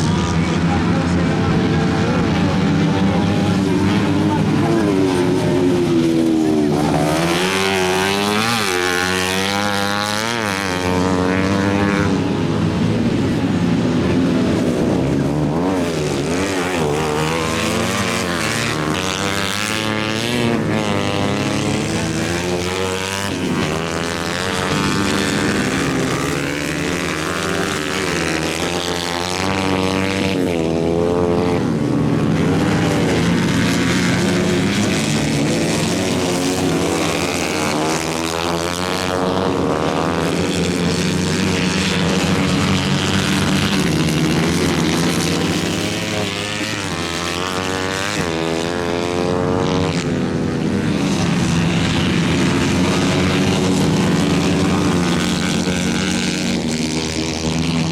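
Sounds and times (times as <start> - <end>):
small engine revving: 0.0 - 57.9.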